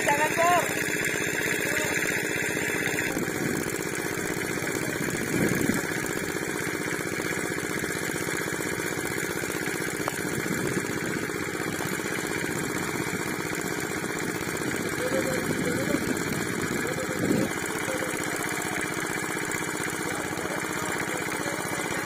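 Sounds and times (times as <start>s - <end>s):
small engine running steadily: 0.0s - 22.0s.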